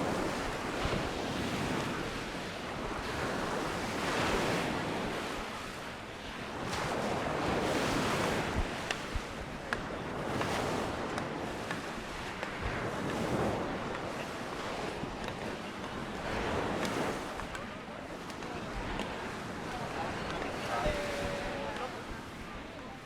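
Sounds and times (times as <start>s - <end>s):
sea waves washing onto beach: 0.0s - 23.0s
wind on microphone: 0.0s - 23.0s.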